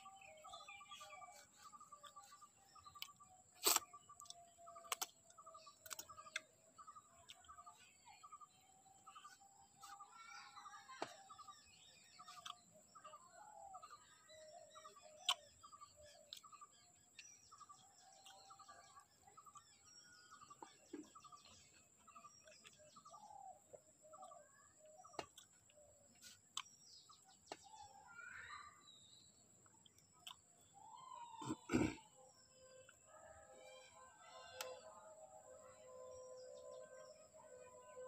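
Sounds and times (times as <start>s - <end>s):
faint birds chirping: 0.0s - 38.0s.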